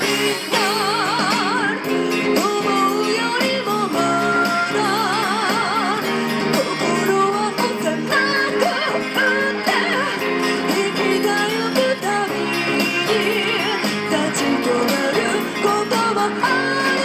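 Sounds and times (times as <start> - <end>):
woman singing into microphone: 0.0 - 17.0.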